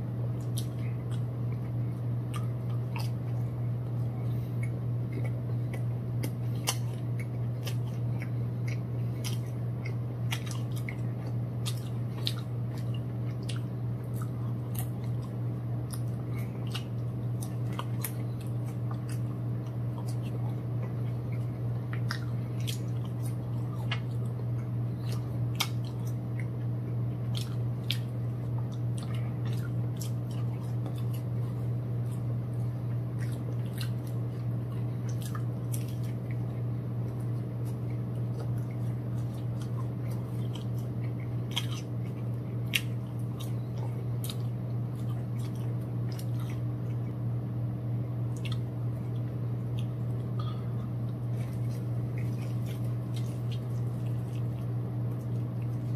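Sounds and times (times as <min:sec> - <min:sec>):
chewing and crunching food: 0:00.0 - 0:55.9
steady low hum: 0:00.0 - 0:55.9.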